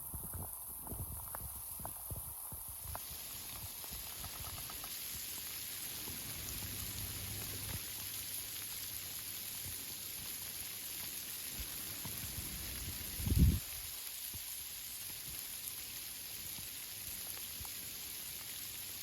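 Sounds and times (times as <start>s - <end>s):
rain on leaves: 0.0s - 19.0s.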